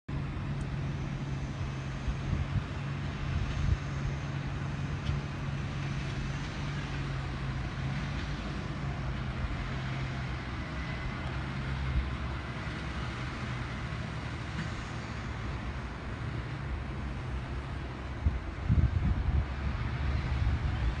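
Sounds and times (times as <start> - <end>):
tractor diesel engine under load: 0.1 - 21.0.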